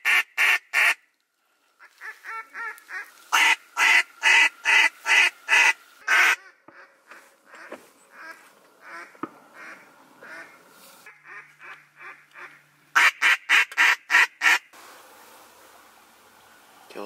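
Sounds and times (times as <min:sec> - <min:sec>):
duck call quacks: 0:00.0 - 0:01.0, 0:01.8 - 0:14.7.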